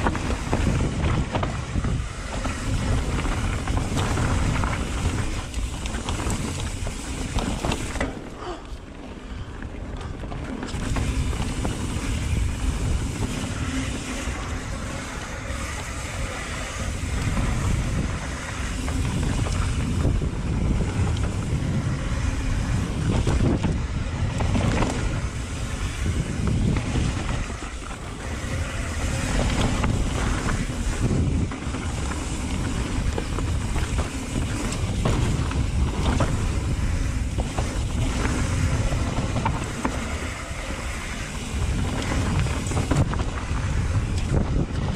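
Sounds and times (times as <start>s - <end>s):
wind buffeting microphone: 0.0s - 8.1s, 9.2s - 44.9s
bike knocks and rattles: 0.0s - 44.9s
tyres rumbling on dirt and rock: 0.0s - 44.9s.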